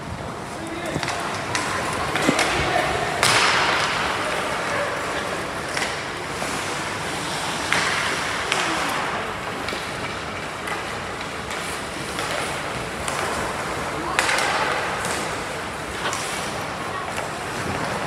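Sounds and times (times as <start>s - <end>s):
hockey sticks and puck clacking: 0.1s - 18.0s
skate blades scraping on ice: 0.3s - 18.0s.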